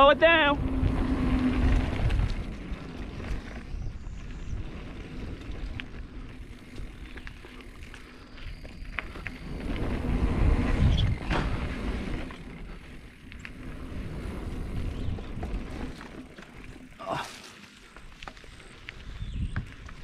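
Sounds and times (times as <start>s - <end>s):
bike clicks and rattles: 0.0s - 20.0s
bike tyre and wind rumble: 0.0s - 20.0s.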